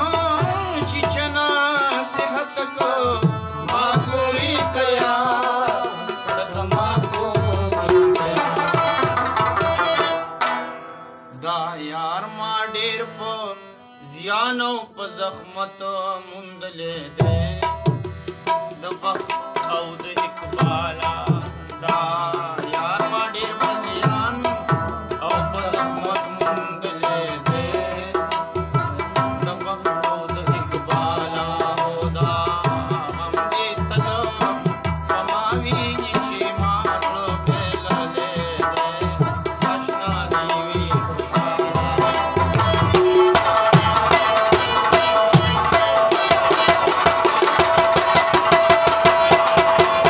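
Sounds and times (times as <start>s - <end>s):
hand-played barrel drum: 0.0s - 10.8s, 17.2s - 50.0s.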